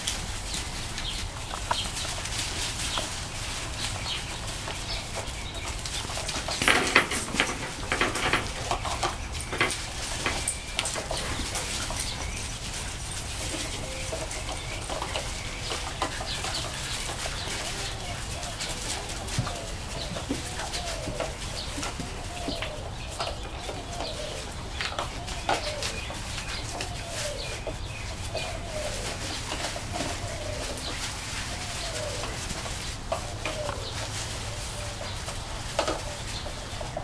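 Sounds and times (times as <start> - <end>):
puppies scuffling in wood shavings: 0.0 - 37.0.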